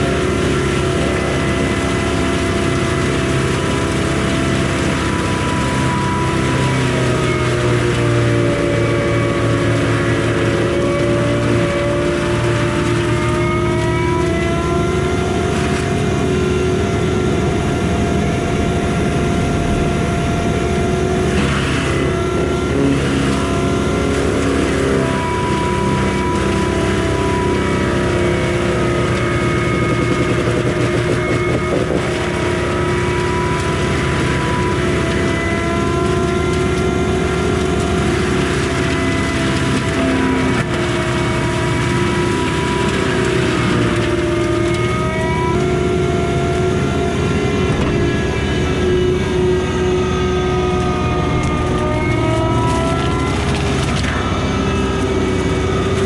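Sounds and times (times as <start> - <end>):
diesel engine running: 0.0 - 56.0
drum mulcher whine: 0.0 - 56.0.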